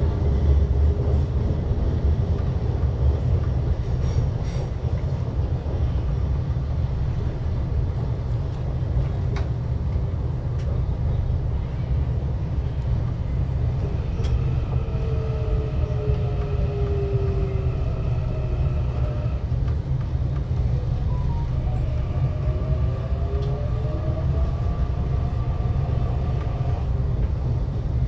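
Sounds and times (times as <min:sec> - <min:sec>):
train interior rumble: 0:00.0 - 0:28.0.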